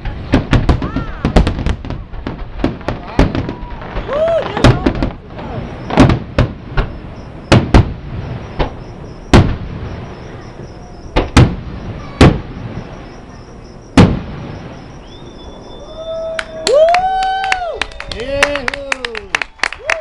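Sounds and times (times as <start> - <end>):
distant fireworks bangs: 0.0 - 16.6.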